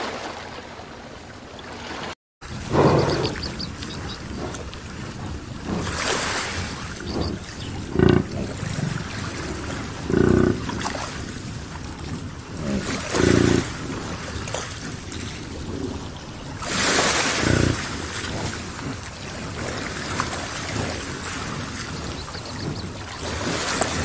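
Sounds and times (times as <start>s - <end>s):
surf: 0.0s - 24.0s
wave washing in: 0.0s - 24.0s
wind: 0.0s - 24.0s.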